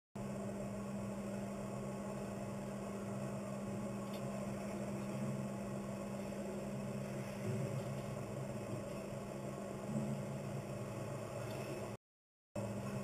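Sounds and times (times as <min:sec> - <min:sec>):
low mechanical hum: 0:00.2 - 0:12.0, 0:12.6 - 0:13.0.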